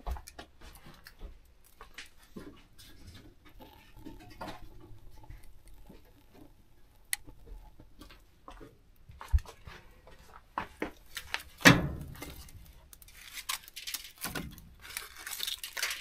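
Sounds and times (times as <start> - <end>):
firewood knocking and scraping: 0.0 - 15.0.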